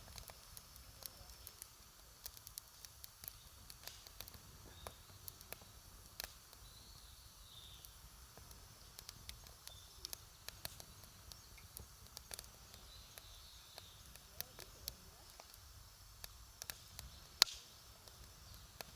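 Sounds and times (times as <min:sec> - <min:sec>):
campfire crackling: 0:00.0 - 0:18.9.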